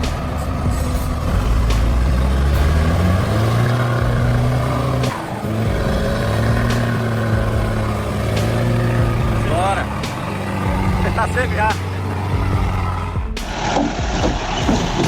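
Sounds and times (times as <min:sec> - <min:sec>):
truck diesel engine accelerating: 0:00.0 - 0:15.0.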